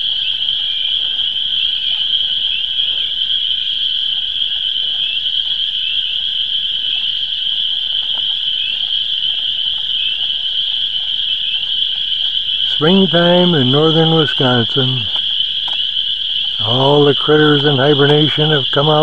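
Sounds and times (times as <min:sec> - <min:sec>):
chorus of frogs calling: 0:00.0 - 0:19.0.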